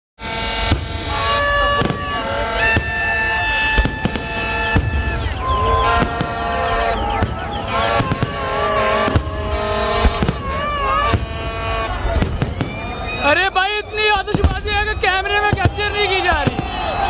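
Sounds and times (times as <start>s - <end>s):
crowd: 0.2s - 17.0s
fireworks banging: 0.2s - 17.0s.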